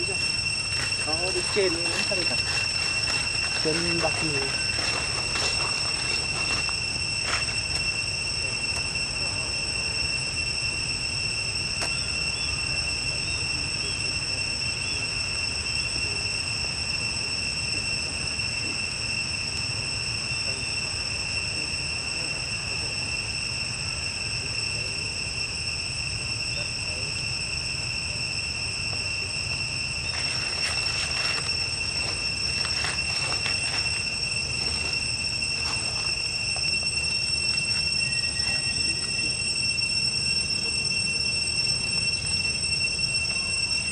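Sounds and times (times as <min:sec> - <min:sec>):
faint chirps: 0:00.0 - 0:43.9
high-pitched insect drone: 0:00.0 - 0:43.9.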